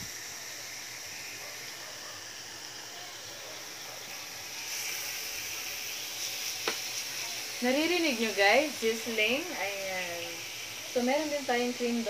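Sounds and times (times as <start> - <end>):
meat sizzling on griddle: 0.0 - 12.0.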